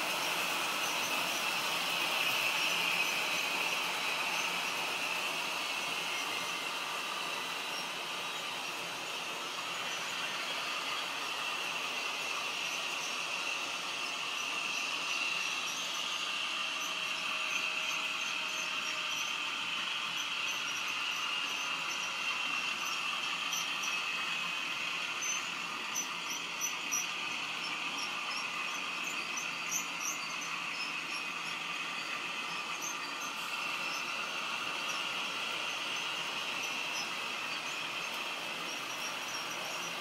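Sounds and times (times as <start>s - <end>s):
model train diesel engine sound: 0.0s - 40.0s.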